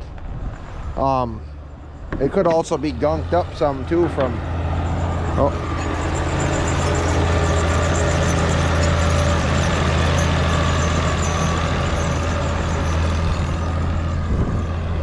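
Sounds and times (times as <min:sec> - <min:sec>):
tractor engine driving past: 0:00.0 - 0:15.0.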